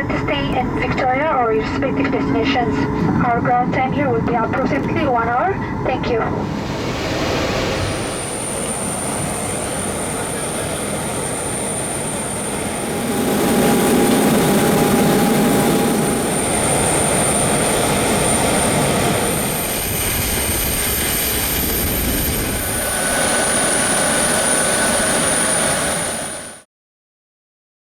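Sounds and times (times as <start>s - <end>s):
jet engines running: 0.0s - 26.6s.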